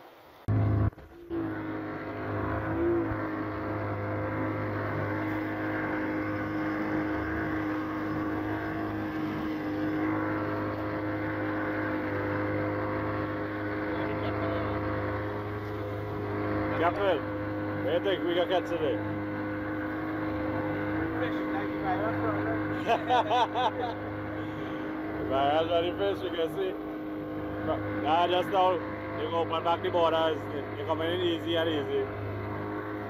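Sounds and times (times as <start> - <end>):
outboard motor running: 0.5 - 33.0.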